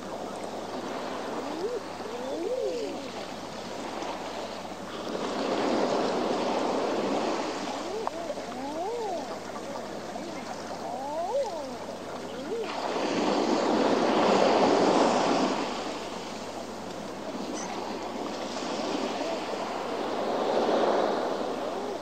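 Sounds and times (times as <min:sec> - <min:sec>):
waves breaking on rocky shore: 0:00.0 - 0:22.0.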